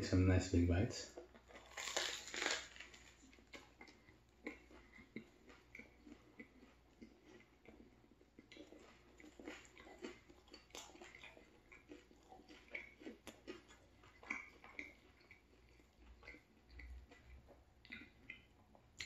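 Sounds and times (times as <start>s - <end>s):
chewing sandwich: 1.0s - 19.0s.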